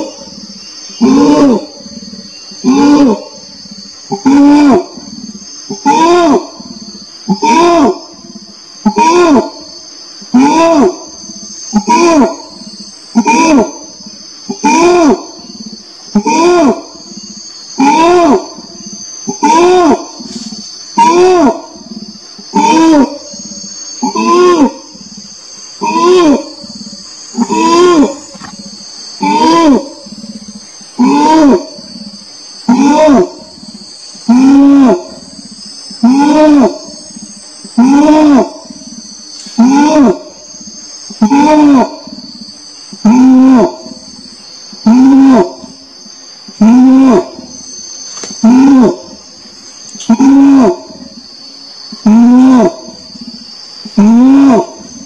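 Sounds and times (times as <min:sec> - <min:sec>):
orangutan calling: 0:00.0 - 0:55.0
steady high buzz: 0:00.0 - 0:55.0.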